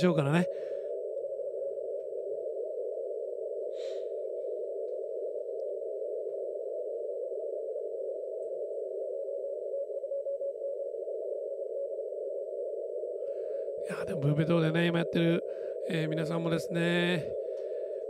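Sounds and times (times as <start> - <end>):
shortwave receiver hiss: 0.0 - 18.0.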